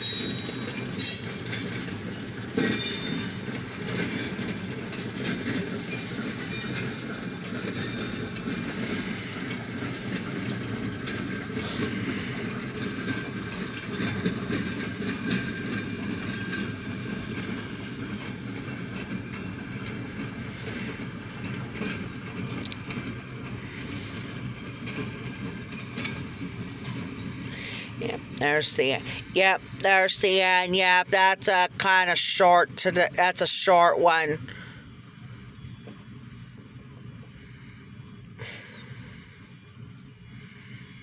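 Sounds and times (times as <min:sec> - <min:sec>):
train cars clanking: 0:00.0 - 0:41.0
train wheels rumbling on rail: 0:00.0 - 0:41.0.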